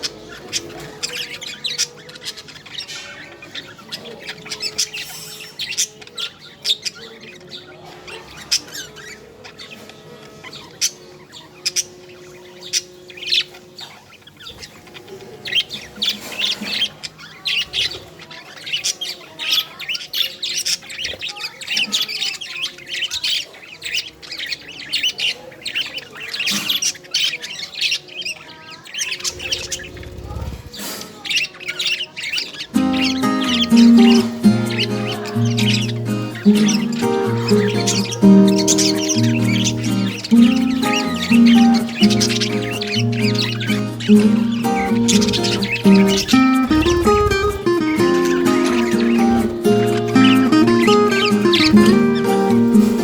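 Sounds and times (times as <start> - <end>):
budgerigars chirping and chattering: 0.0 - 53.0.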